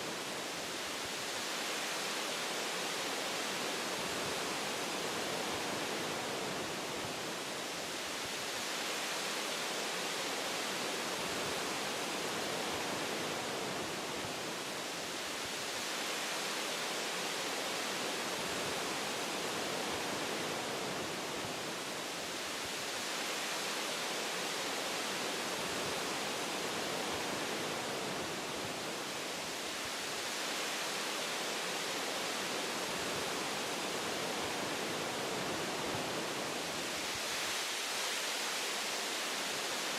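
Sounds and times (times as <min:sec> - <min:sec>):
wind blowing through tree branches: 0:00.0 - 0:39.9.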